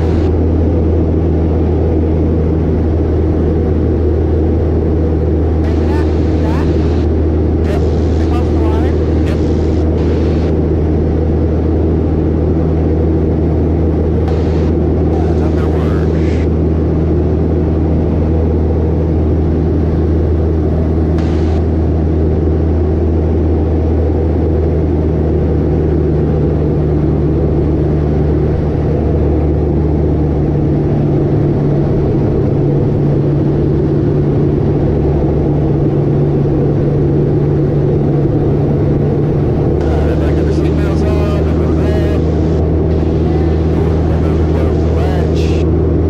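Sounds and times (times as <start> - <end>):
propeller plane engine droning: 0.0 - 46.0.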